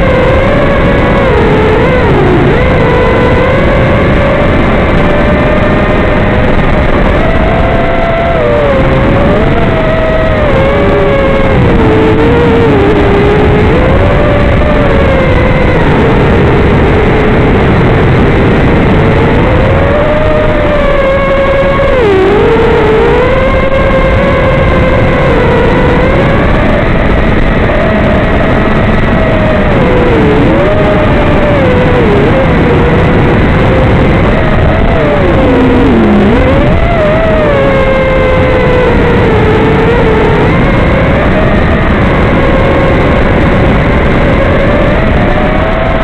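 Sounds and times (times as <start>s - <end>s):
drone motors whining: 0.0s - 46.0s.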